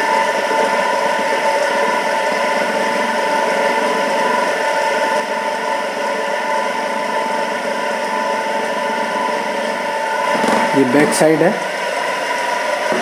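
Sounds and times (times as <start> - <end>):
exhaust fan humming: 0.0 - 13.0.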